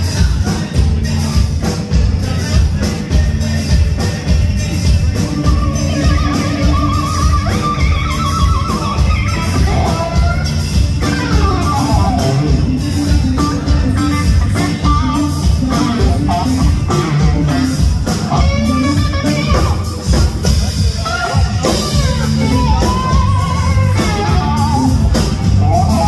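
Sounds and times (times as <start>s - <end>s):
bass guitar: 0.0s - 26.0s
drums: 0.0s - 26.0s
electric guitar lead: 4.2s - 26.0s.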